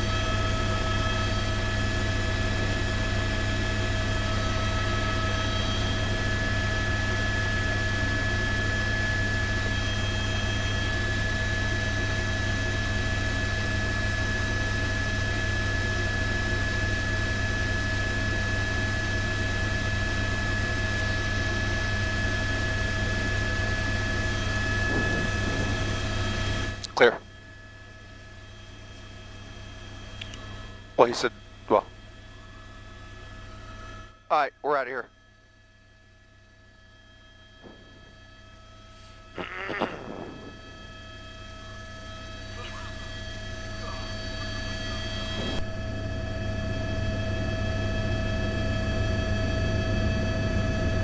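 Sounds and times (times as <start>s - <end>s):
helicopter engine and rotor drone: 0.0s - 51.0s
steady whining tones: 0.0s - 51.0s.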